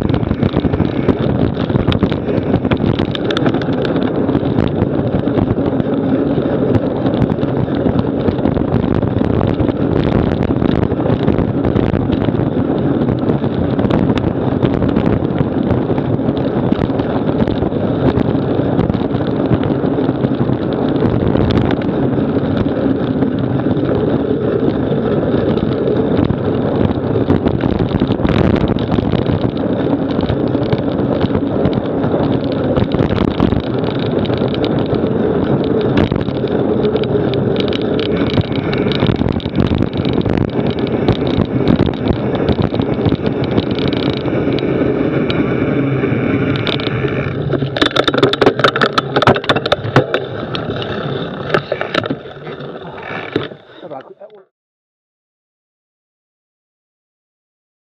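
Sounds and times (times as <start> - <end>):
tyre rumble on dirt trail: 0.0 - 54.0
wind on microphone: 0.0 - 54.5.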